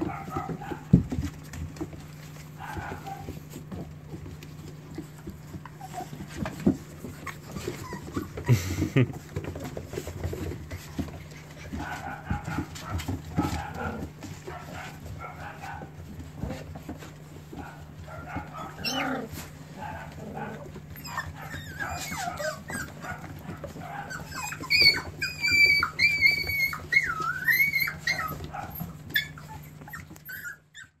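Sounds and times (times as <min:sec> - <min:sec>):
paws scrabbling on floor: 0:00.0 - 0:30.9
puppies yipping and whining: 0:00.0 - 0:31.0.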